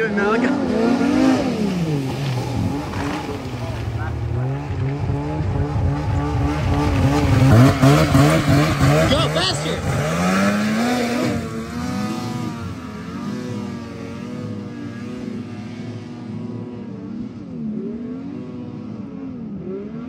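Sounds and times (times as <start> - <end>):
snowmobile engine at high revs: 0.0 - 20.0.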